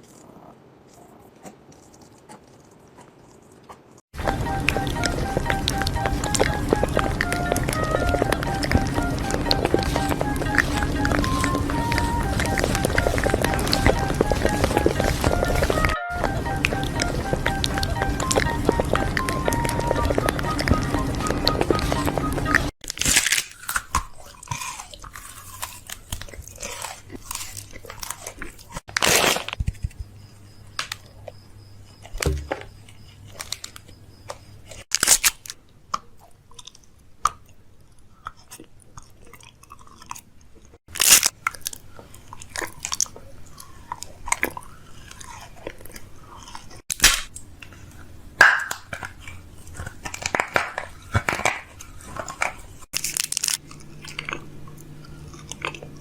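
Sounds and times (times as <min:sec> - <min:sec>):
chewing crunching and crackling: 0:00.0 - 0:56.0.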